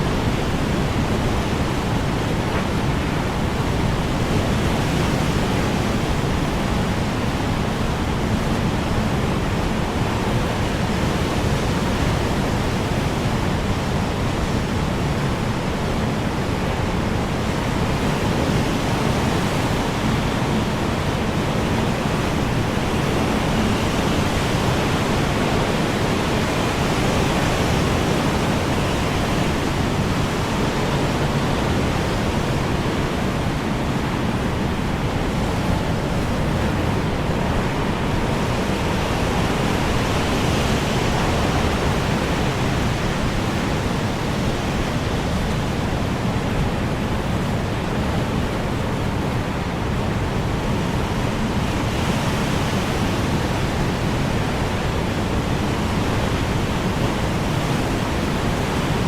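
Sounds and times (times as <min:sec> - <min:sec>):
strong wind blowing: 0:00.0 - 0:59.0.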